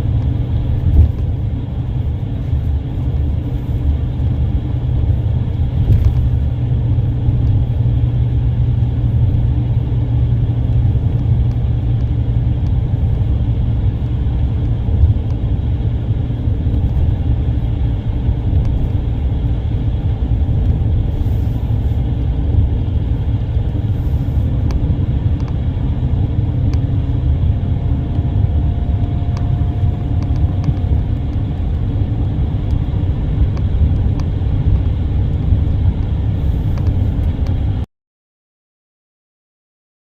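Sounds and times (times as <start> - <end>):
vehicle rumbling along road: 0.0 - 37.9.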